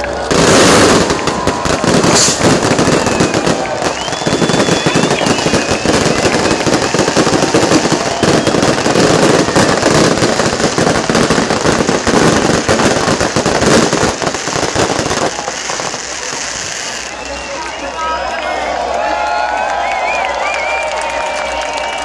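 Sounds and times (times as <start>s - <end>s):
fireworks crackling and banging: 0.0s - 18.4s.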